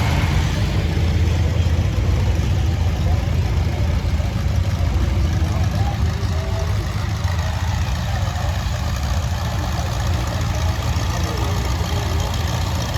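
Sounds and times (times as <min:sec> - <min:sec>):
tractor engine idling: 0:00.0 - 0:12.9.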